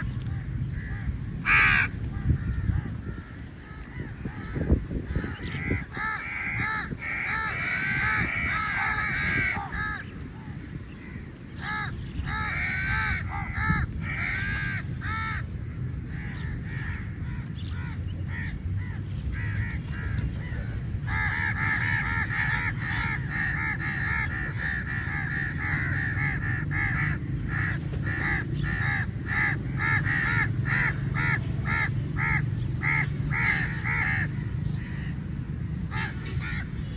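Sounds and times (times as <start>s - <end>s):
crows cawing: 0.7s - 10.2s, 11.0s - 36.7s.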